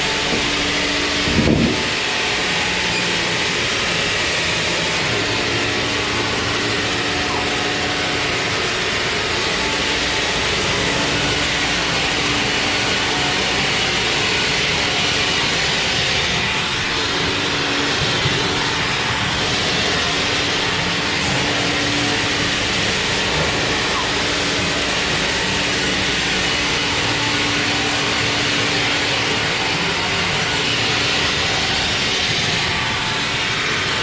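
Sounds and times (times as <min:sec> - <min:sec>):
sawmill machinery running: 0:00.0 - 0:34.0.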